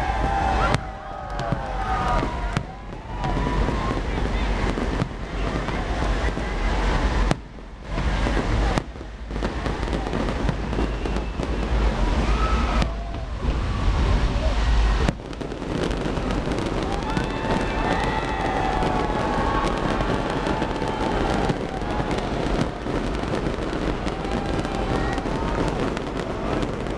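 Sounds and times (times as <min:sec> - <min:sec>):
deep rumble: 0:00.0 - 0:26.9
fireworks crackling and popping: 0:00.0 - 0:26.9.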